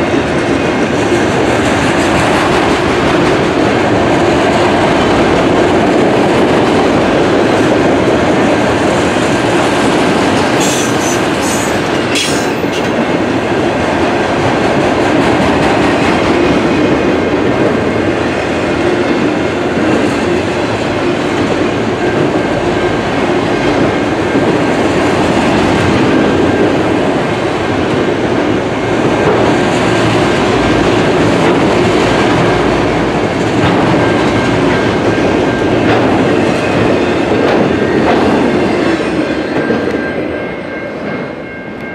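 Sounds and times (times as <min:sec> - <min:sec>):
freight cars rumbling and rattling: 0:00.0 - 0:40.4.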